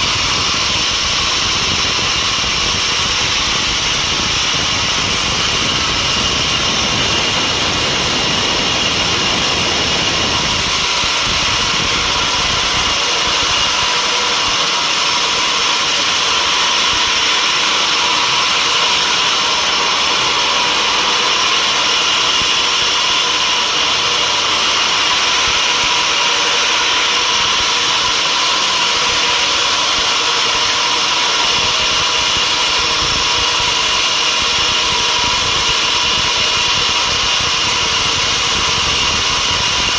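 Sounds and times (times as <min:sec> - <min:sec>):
sawmill machinery whine: 0:00.0 - 0:39.9.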